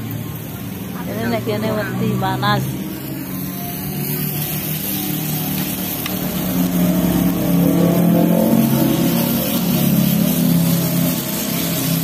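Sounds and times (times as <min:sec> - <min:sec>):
vehicle engine revving: 0:00.6 - 0:12.0.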